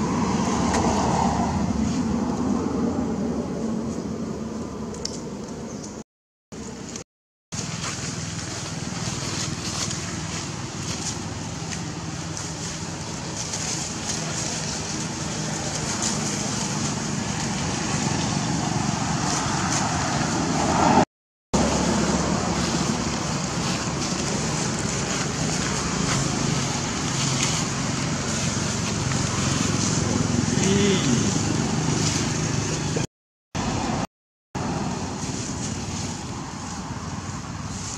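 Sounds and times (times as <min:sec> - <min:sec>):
low hum of distant traffic: 0:00.0 - 0:06.0, 0:06.6 - 0:21.0, 0:21.6 - 0:37.9.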